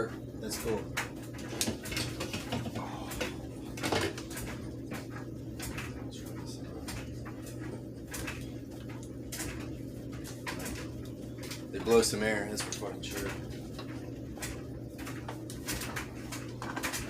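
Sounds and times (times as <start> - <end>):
electric fans humming: 0.0 - 17.0.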